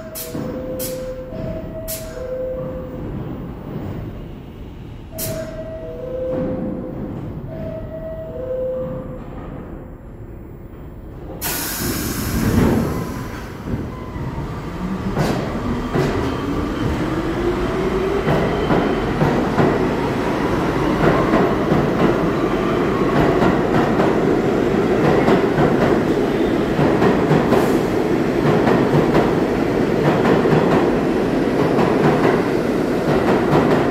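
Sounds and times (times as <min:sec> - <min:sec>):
train rumble: 0:00.0 - 0:07.8, 0:08.8 - 0:33.9.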